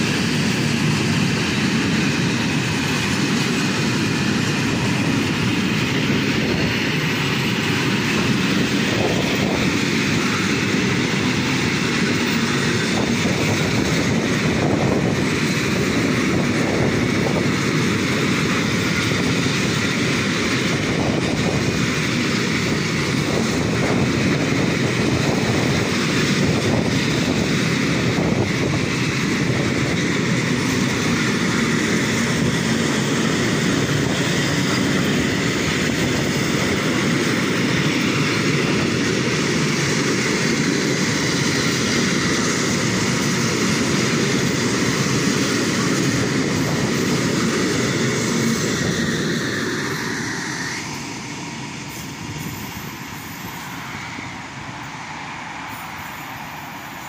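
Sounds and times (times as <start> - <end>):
steel wheels running on rails: 0.0 - 57.0.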